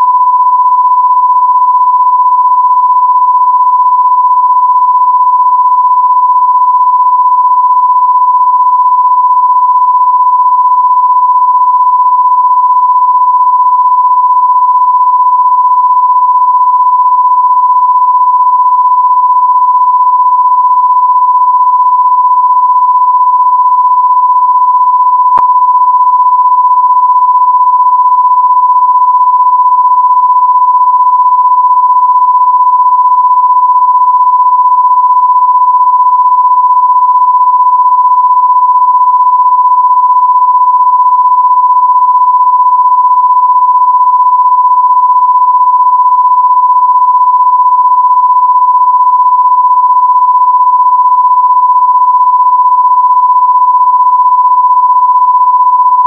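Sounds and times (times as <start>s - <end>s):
electronic test tone: 0.0s - 56.0s.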